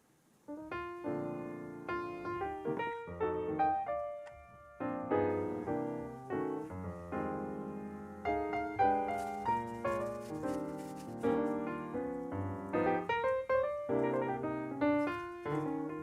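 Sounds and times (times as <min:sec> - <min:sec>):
piano music: 0:00.5 - 0:16.0.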